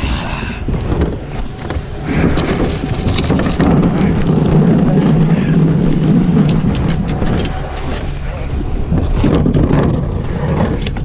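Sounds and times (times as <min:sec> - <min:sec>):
diesel engine humming: 0:00.0 - 0:11.0
trash cart clattering: 0:00.8 - 0:11.0.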